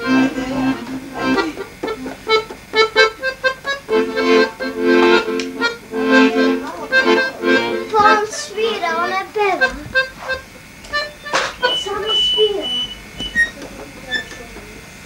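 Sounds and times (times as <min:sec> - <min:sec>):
button accordion playing: 0:00.0 - 0:14.2.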